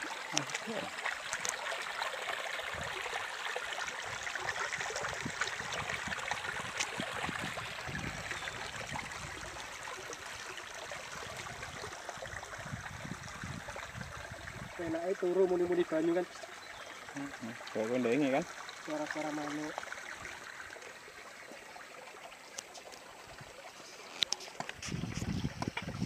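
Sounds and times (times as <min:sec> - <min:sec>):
stream flowing over stones: 0:00.0 - 0:26.0.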